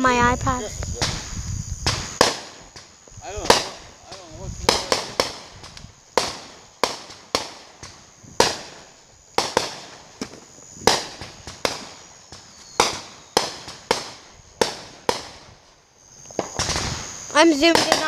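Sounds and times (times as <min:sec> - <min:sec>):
fireworks bangs echoing: 0:00.0 - 0:18.0.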